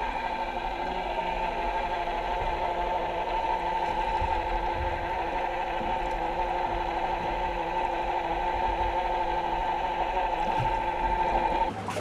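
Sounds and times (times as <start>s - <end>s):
mechanical hum underwater: 0.0s - 12.0s.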